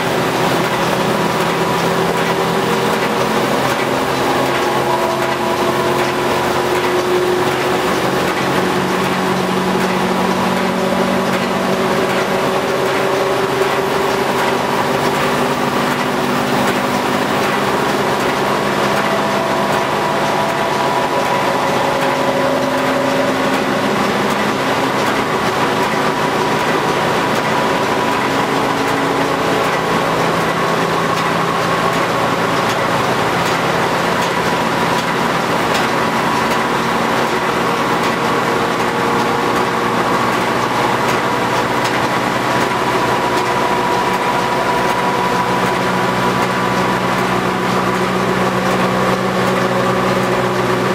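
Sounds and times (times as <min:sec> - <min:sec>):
planer machine running: 0:00.0 - 0:50.9.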